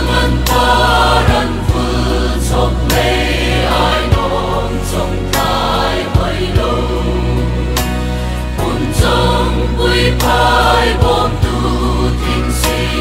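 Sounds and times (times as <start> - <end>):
choir singing with accompaniment: 0.0 - 13.0.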